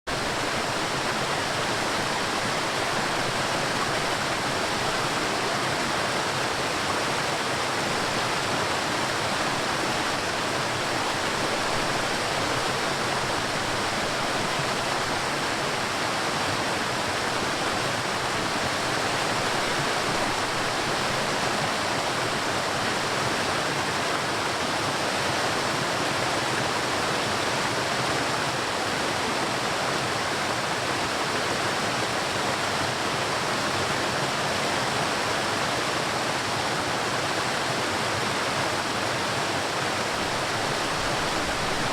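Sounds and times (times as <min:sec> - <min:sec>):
water rushing: 0:00.1 - 0:41.9.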